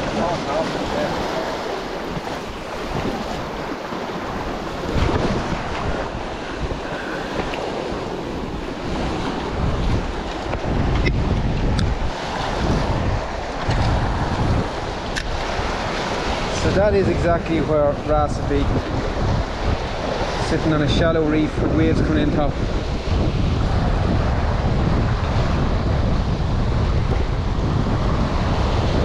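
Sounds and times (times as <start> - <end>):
surf breaking over rocks: 0.0 - 29.0
wind buffeting microphone: 0.0 - 29.0.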